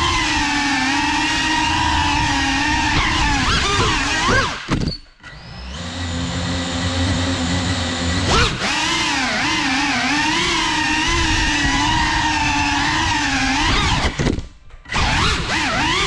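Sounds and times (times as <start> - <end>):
drone motor rising whine: 0.0 - 16.0
drone motors humming: 0.0 - 16.0.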